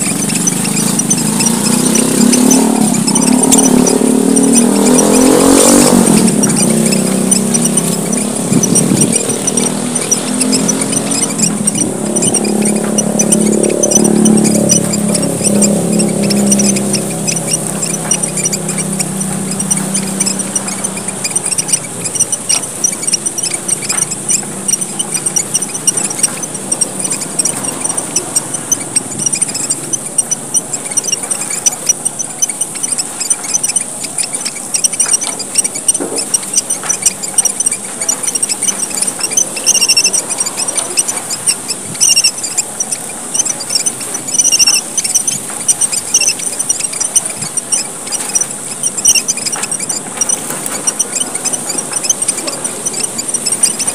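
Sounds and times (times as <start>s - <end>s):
finches chirping: 0.0s - 53.9s.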